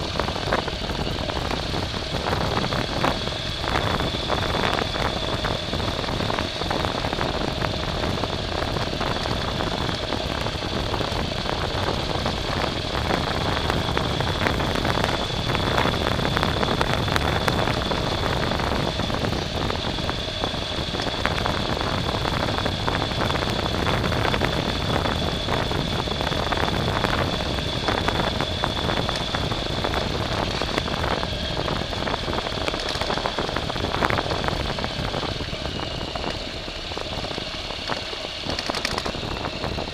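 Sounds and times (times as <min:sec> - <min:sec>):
vehicle engine whining and rattling: 0:00.0 - 0:39.9.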